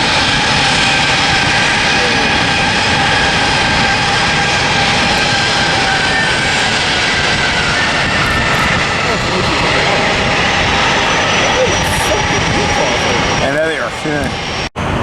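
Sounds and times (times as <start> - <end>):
jet engine whine: 0.0 - 15.0
jet engines roaring: 0.0 - 15.0.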